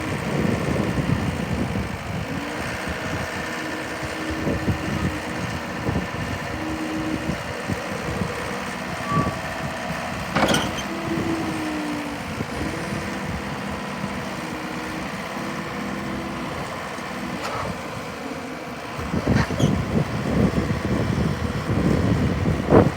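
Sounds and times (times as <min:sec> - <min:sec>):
diesel engine rumbling: 0:00.0 - 0:22.9.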